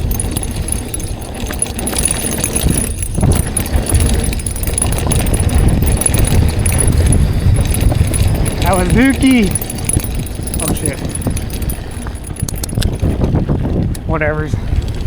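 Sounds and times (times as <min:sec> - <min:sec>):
bike chain and frame rattling: 0:00.0 - 0:13.9
wind buffeting microphone: 0:00.0 - 0:15.0.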